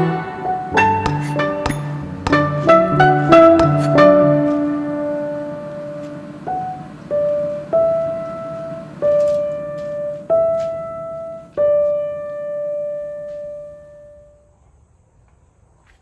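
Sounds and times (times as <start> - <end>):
slow piano notes: 0.0 - 13.8.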